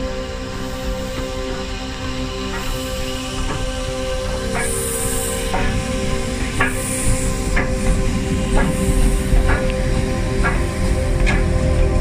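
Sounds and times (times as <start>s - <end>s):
steam hissing: 0.0s - 12.0s
steam locomotive exhaust beats: 0.0s - 12.0s.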